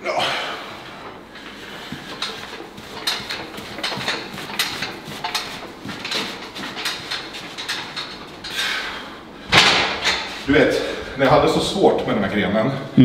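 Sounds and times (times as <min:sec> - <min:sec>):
metal yoke rattling and clanking: 0:01.0 - 0:08.9, 0:09.5 - 0:12.2.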